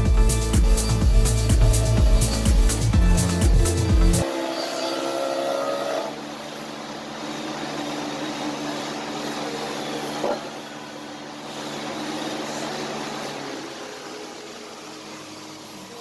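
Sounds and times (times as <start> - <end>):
wood shaper motor humming: 0.0 - 16.0.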